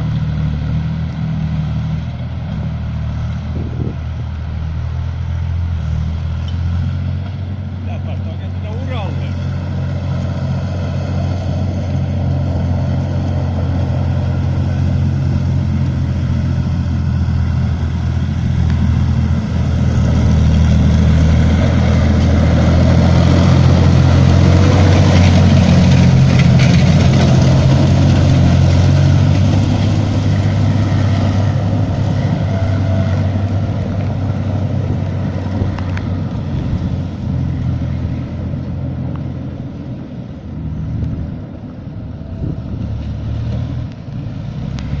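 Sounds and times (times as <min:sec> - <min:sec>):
tracked vehicle diesel engine: 0:00.0 - 0:45.0.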